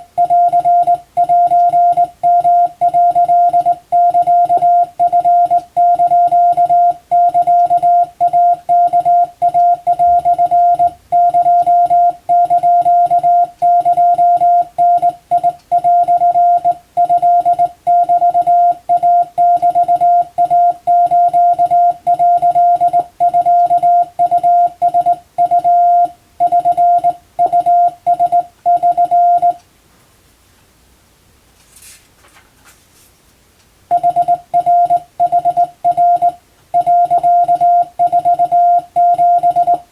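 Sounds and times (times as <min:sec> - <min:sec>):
morse code beeps: 0:00.0 - 0:29.6, 0:33.9 - 0:39.9.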